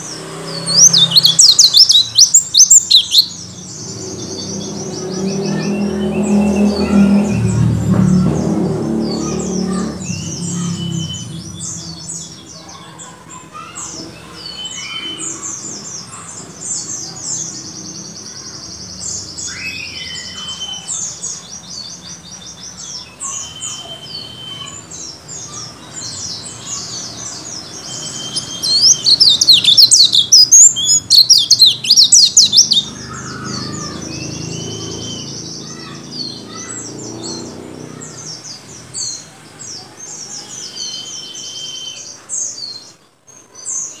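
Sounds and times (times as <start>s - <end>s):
bird twittering song: 0.0s - 44.0s.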